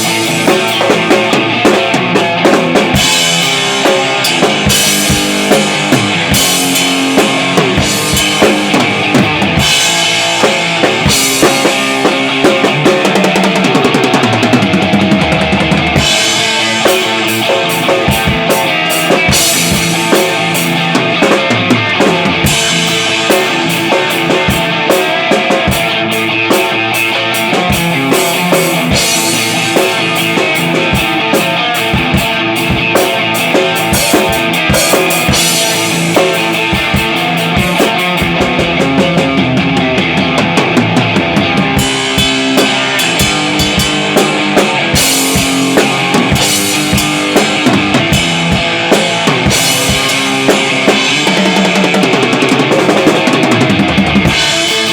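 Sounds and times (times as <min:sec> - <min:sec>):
guitar rock music: 0:00.0 - 0:54.9
hard-hit drum beat: 0:00.0 - 0:54.9.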